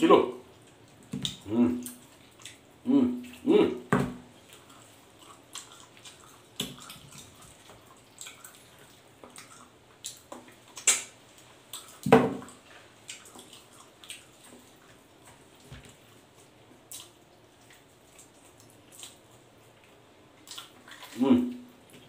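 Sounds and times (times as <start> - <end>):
wet chewing and lip-smacking: 0.5 - 3.4, 4.2 - 22.0.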